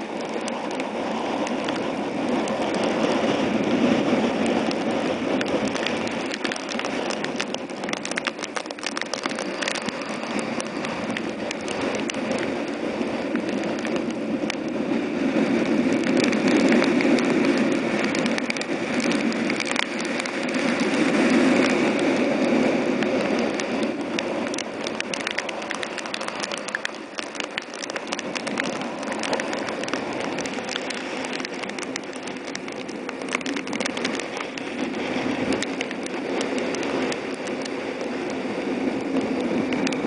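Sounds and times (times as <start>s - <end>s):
wind and rain against car: 0.0s - 40.0s
raindrops ticking on glass: 4.2s - 14.8s, 15.4s - 40.0s.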